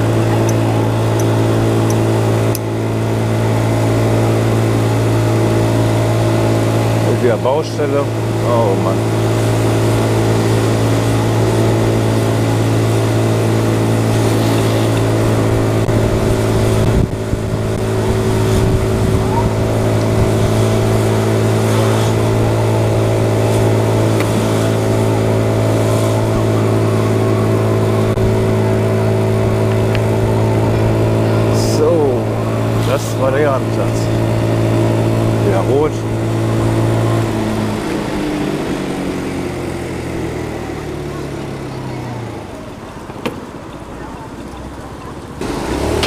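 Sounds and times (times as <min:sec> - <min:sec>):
motor scooter engine running: 0:00.0 - 0:46.0
road noise: 0:00.0 - 0:46.0.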